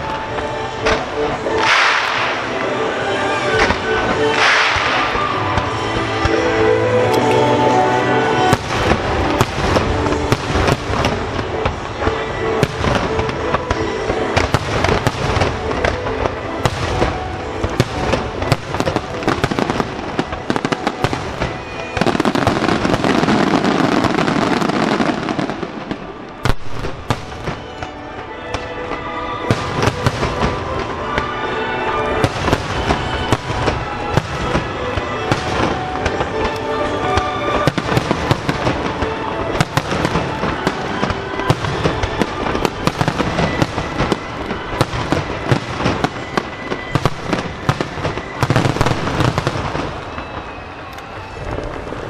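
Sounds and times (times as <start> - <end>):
fireworks bursting: 0.0 - 52.0
music playing: 0.0 - 52.0.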